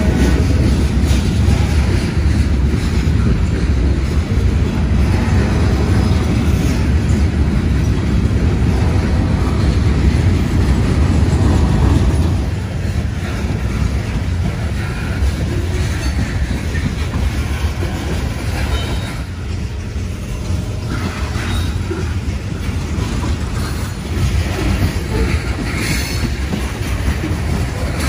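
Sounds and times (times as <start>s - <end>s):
freight train cars rolling on rails: 0.0s - 28.0s.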